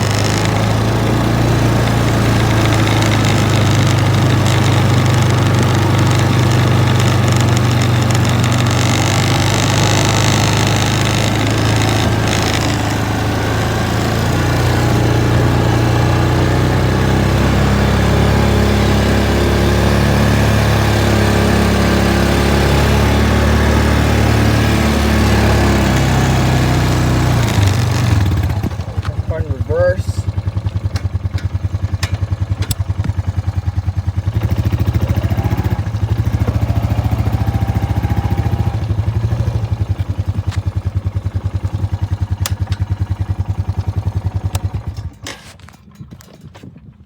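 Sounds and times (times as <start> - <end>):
atv engine running: 0.0 - 47.0.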